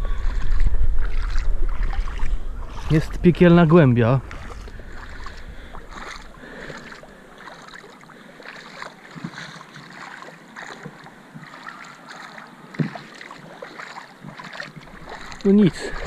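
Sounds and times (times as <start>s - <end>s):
river water splashing: 0.0s - 16.0s.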